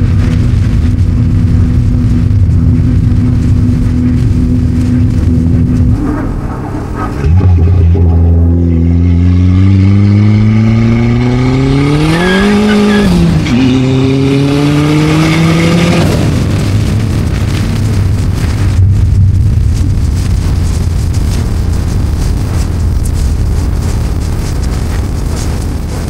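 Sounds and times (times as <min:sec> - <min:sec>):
car engine accelerating: 0:00.0 - 0:21.4
wind and road noise: 0:00.0 - 0:26.0.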